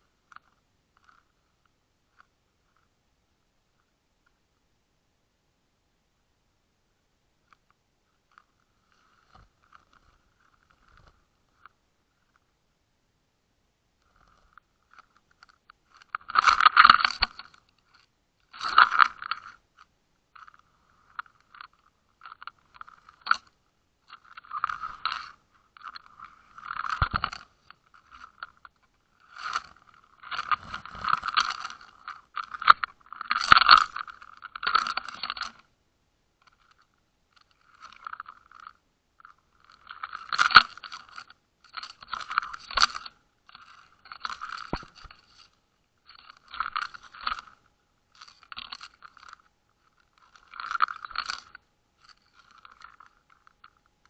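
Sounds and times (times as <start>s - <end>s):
muffled crunching and scraping: 0.0s - 3.0s, 7.4s - 12.6s, 14.0s - 35.8s, 36.4s - 54.0s.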